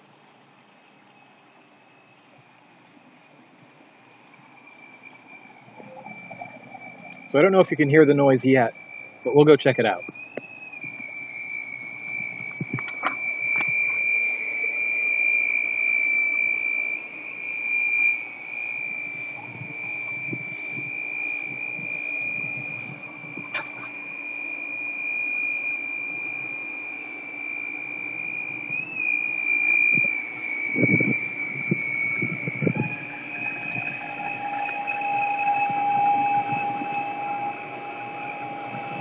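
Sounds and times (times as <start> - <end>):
high-pitched equipment whine: 0.0 - 39.0
low hum: 0.0 - 39.0.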